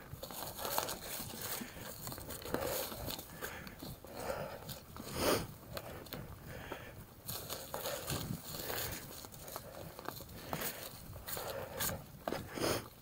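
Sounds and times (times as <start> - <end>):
bike clicks and rattles: 0.0 - 13.0
bike tyres rolling on dirt: 0.0 - 13.0.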